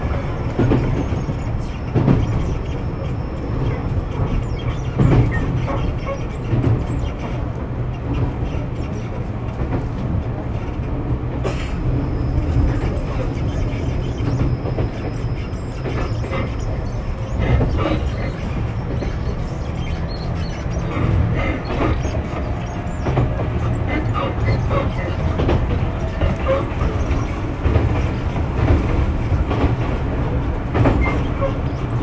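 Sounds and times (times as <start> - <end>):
rail-joint clicks: 0.0 - 32.0
train wheels rumbling on rail: 0.0 - 32.0.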